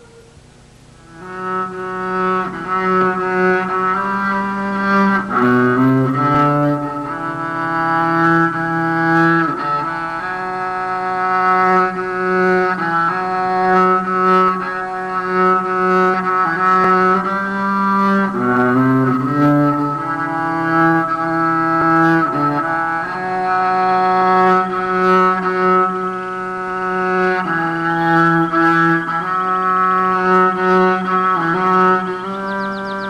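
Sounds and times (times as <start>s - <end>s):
bowed string instrument melody: 0.0s - 33.0s.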